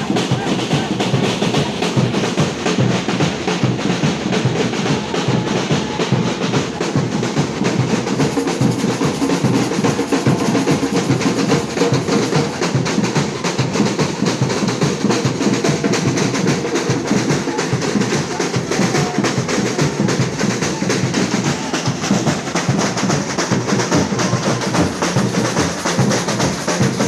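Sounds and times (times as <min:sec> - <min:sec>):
samba percussion drumming: 0:00.0 - 0:27.0.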